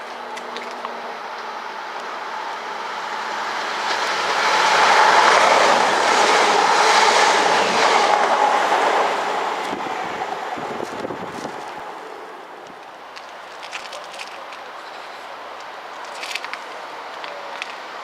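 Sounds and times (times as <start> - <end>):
train passing by: 0.0 - 18.0.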